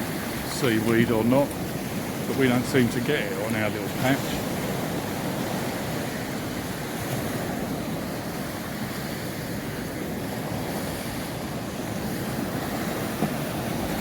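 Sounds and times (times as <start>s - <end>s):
surf breaking on reef: 0.0s - 14.0s.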